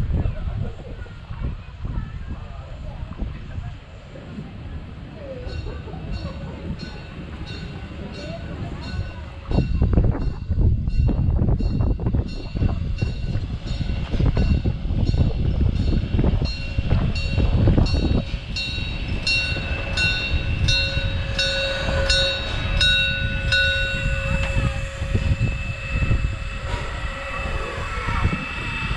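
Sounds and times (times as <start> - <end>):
train carriages rumbling: 0.0 - 28.9
high-pitched train squeal: 5.4 - 28.9.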